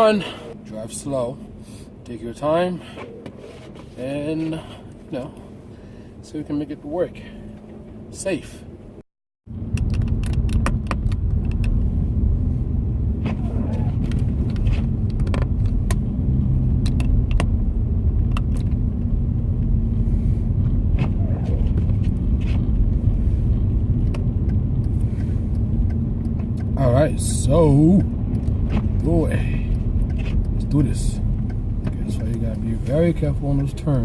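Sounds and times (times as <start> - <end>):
car engine drone: 0.0 - 34.0
road noise: 0.0 - 34.0.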